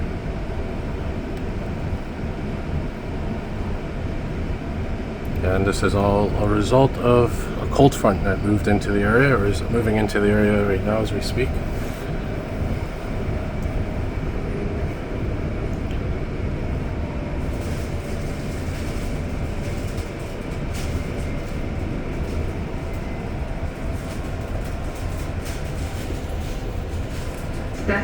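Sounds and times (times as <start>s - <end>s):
faint steady whine: 0.0s - 28.0s
train wheels rumbling: 0.0s - 28.0s.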